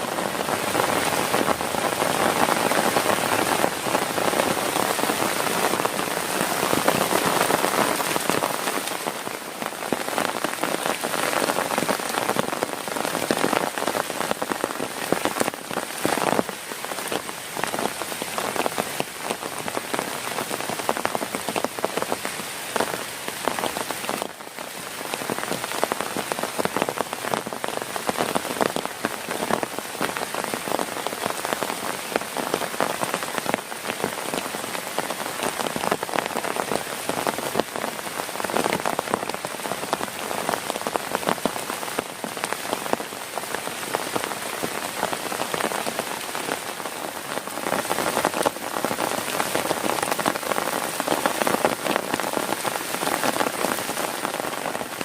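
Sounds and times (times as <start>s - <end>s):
heavy rain on a tent: 0.0s - 55.0s.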